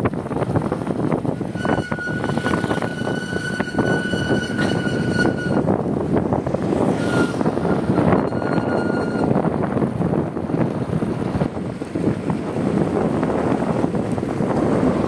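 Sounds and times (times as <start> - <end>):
road and vehicle noise: 0.0 - 15.0
wind buffeting microphone: 0.0 - 15.0.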